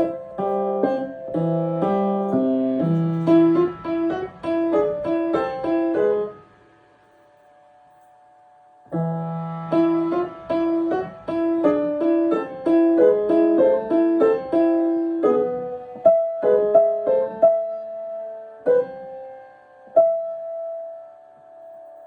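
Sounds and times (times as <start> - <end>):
piano melody: 0.0 - 22.0.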